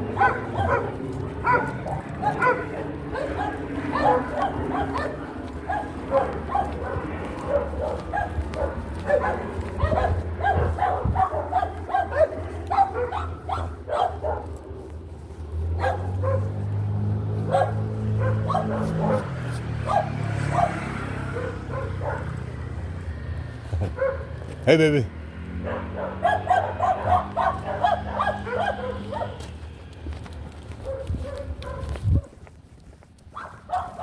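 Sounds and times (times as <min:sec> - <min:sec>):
small dogs barking and yipping: 0:00.0 - 0:34.0.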